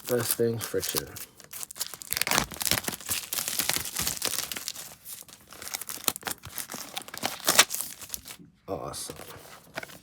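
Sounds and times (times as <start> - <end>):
packaging crinkling and rustling: 0.0 - 8.4, 9.1 - 10.0.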